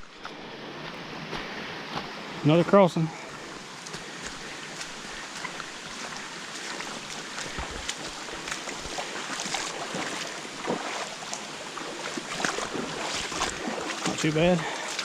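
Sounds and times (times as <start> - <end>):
creek water rushing over rocks: 0.0 - 15.0
footsteps in creek: 0.0 - 15.0
water splashes: 0.0 - 15.0.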